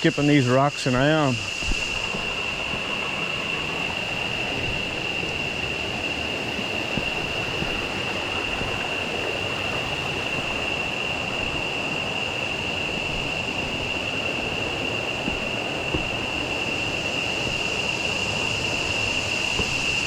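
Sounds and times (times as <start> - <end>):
high-pitched insect drone: 0.0 - 20.0
river water rushing: 1.2 - 20.0.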